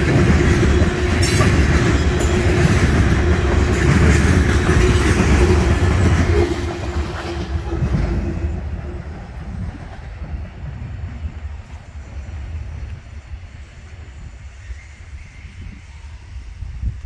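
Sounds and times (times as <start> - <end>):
train wheels rumbling past: 0.0 - 17.0.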